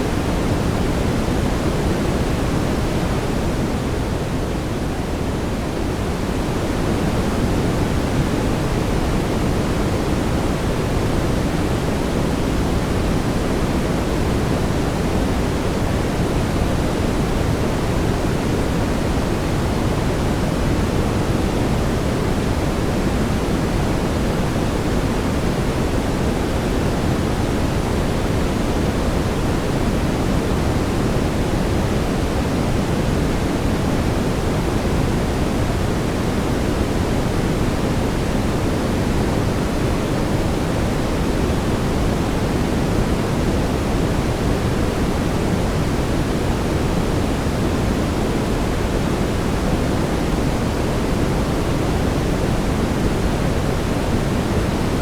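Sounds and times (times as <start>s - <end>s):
brown noise rumbling hiss: 0.0s - 55.0s.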